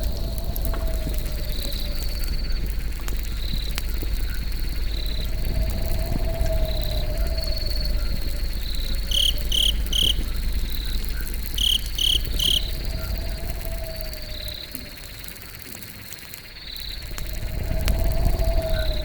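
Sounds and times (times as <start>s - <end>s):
cricket chirps: 0.0s - 19.0s
fire crackles: 0.0s - 19.0s
fire rushing noise: 0.0s - 19.0s
high insect trill: 0.0s - 19.0s.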